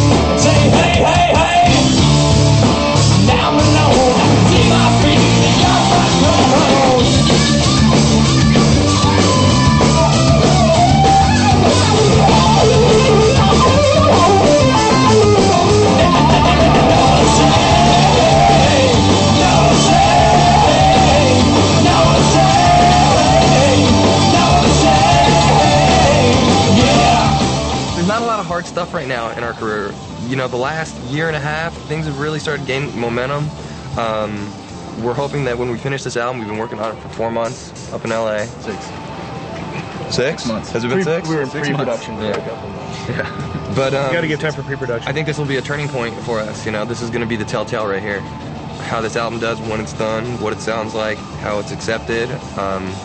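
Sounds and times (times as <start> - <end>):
electric guitar: 0.0 - 35.0, 38.8 - 53.0
rock band playing: 0.0 - 35.6, 38.5 - 53.0
drum kit: 0.0 - 36.0, 41.6 - 53.0.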